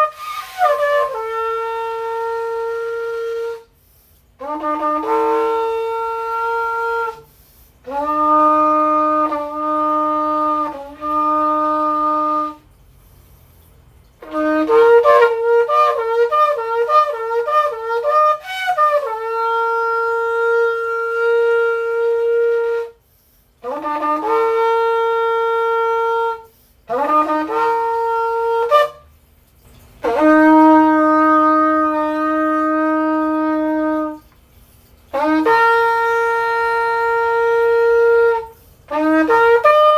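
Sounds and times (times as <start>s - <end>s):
shofar blasts: 0.0s - 12.8s, 14.1s - 39.9s.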